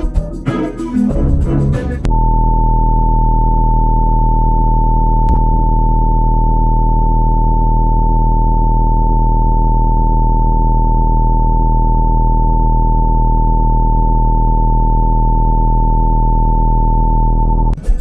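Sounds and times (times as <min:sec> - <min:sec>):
electronic test tone: 0:02.0 - 0:17.8
low steady hum: 0:02.0 - 0:17.8.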